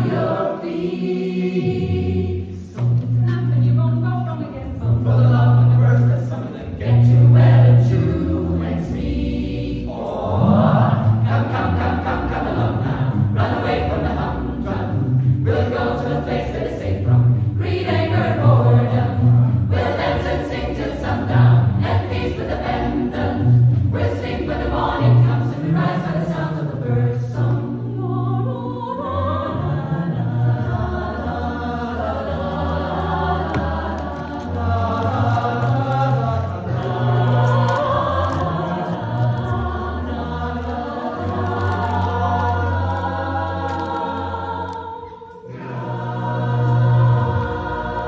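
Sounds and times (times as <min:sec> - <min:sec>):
mixed choir singing: 0:00.0 - 0:48.0.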